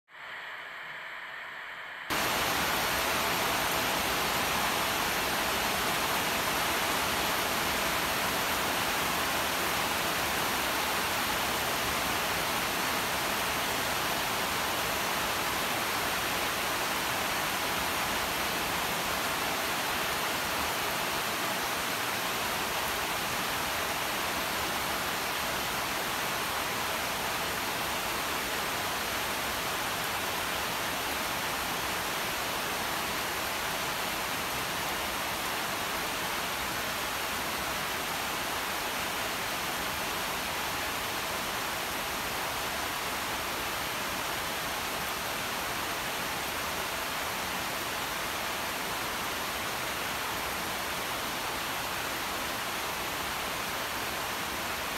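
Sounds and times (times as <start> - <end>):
rain falling on leaves: 2.1 - 54.9.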